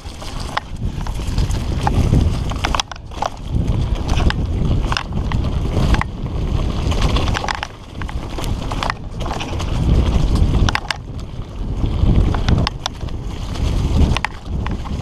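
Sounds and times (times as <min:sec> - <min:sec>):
bike clicks and rattles: 0:00.0 - 0:15.0
tyre rumble on dirt trail: 0:00.0 - 0:15.0
wind buffeting microphone: 0:00.0 - 0:15.0.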